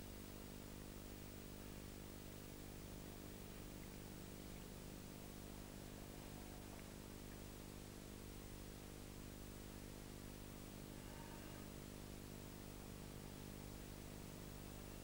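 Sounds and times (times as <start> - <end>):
faint steady hiss: 0.0 - 15.0
low electrical hum: 0.0 - 15.0.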